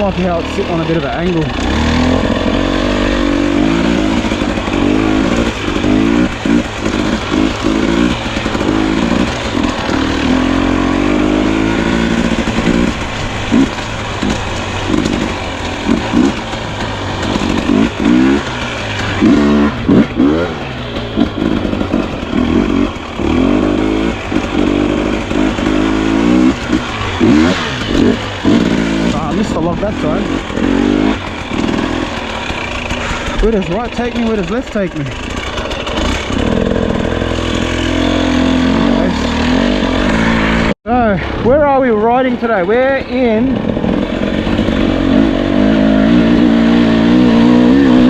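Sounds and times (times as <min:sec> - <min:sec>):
dirt bike engine throttle bursts: 0:00.0 - 0:48.0.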